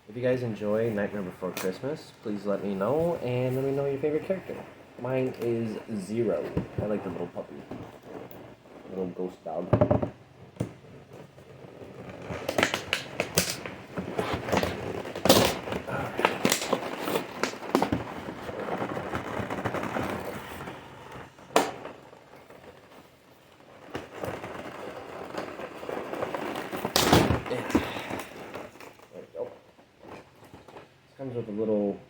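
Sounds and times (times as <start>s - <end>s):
packaging crackling and rustling: 0.2s - 31.5s.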